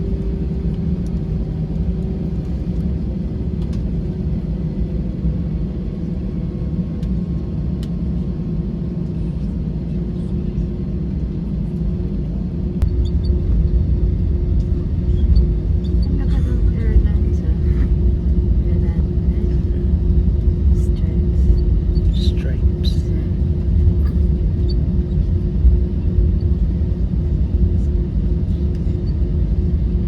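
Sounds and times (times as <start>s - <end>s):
jet engines rumbling in cabin: 0.0s - 30.0s.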